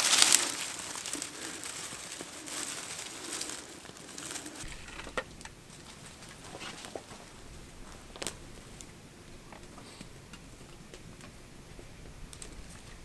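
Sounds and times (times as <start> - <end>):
fire popping: 0.0 - 13.0
twigs and leaves crackling: 0.0 - 13.0.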